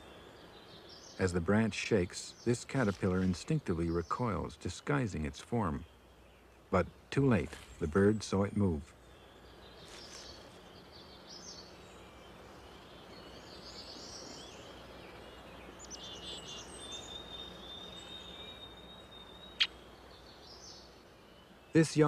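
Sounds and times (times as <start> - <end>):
birds singing: 0.0 - 22.0
faint background hiss: 0.0 - 22.0.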